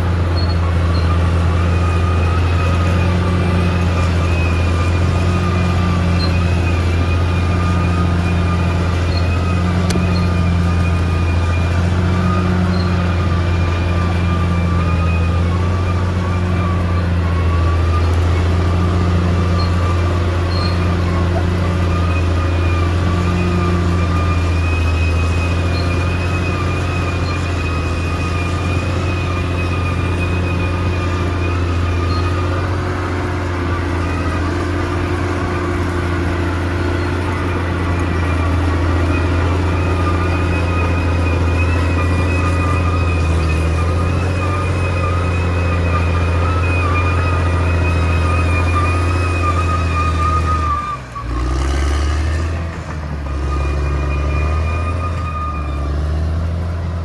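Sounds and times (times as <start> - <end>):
wavering high whine: 0.0 - 50.9
bulldozer diesel engine running: 0.0 - 57.0.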